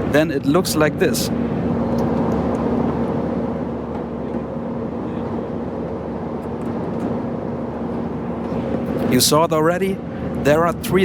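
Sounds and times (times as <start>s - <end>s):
faint low hum: 0.0s - 11.0s
rush of engines and airflow: 0.0s - 11.0s.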